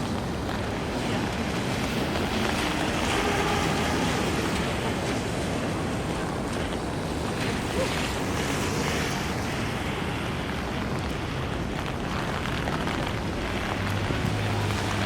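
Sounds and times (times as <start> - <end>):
heavy rain on street: 0.0 - 15.0
traffic on wet road: 0.0 - 15.0.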